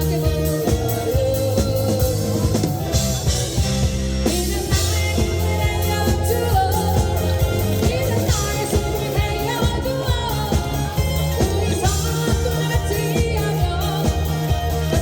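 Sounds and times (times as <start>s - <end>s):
person singing: 0.0s - 3.2s, 4.2s - 15.0s
live rock band playing: 0.0s - 15.0s.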